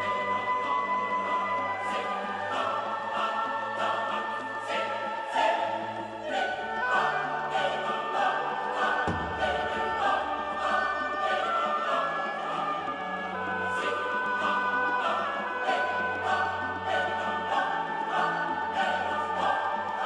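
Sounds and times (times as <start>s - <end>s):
choir singing held notes: 0.0s - 20.0s.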